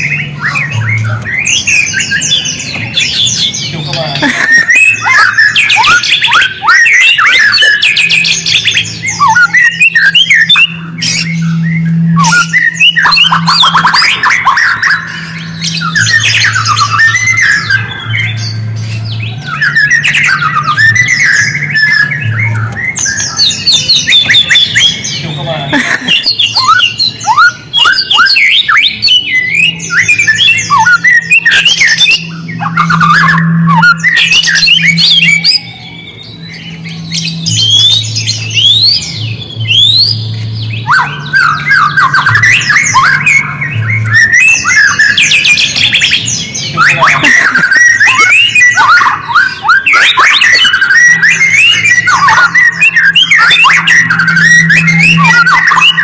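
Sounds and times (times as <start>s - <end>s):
low steady hum: 0.0s - 49.8s
songbird singing: 0.0s - 56.0s.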